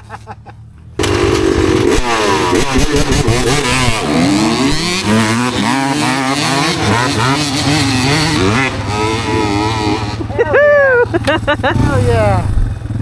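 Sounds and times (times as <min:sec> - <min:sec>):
dirt bike engine revving: 0:00.9 - 0:13.0.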